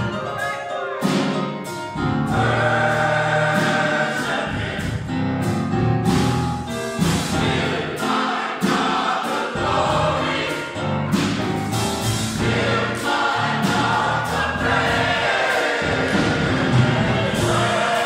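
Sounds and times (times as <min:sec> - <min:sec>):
church choir singing: 0:00.0 - 0:05.8, 0:06.7 - 0:18.0.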